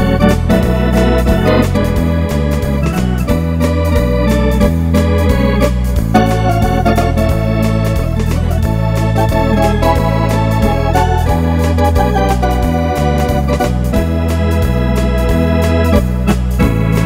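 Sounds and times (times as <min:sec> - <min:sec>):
electronic organ playing foxtrot: 0:00.0 - 0:17.0
steady drum beat: 0:00.0 - 0:17.0.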